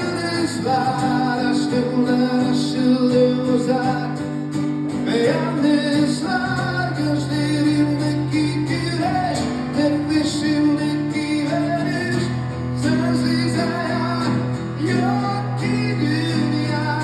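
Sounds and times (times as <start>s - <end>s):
person singing: 0.0s - 4.2s, 5.0s - 17.0s
pop-rock band with guitar: 0.0s - 17.0s.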